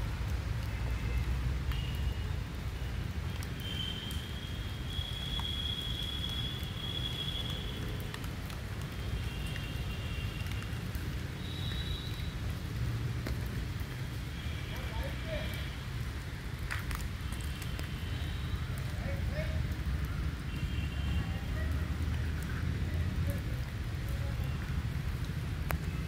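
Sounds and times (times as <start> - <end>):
steady rain on foliage: 0.0 - 26.0.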